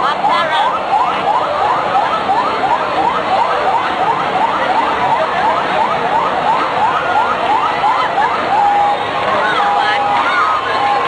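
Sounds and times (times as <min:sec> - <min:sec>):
siren yelping: 0:00.0 - 0:11.0.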